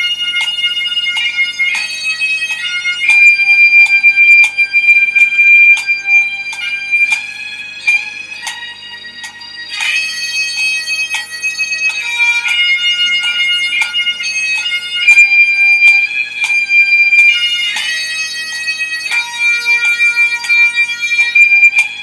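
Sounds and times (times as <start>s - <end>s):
bagpipe music: 0.0s - 22.0s.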